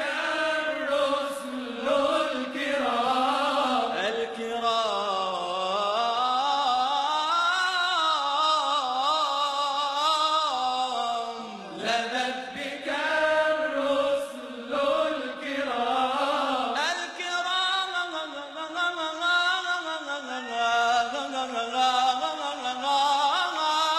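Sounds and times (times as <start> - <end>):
man chanting melismatically: 0.0 - 23.9.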